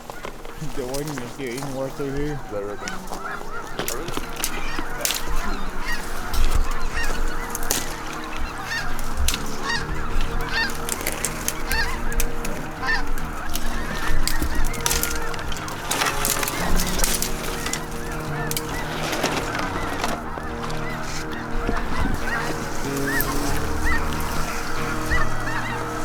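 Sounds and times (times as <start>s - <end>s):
geese honking: 0.0s - 26.0s
sharp cracks and clicks: 2.8s - 26.0s.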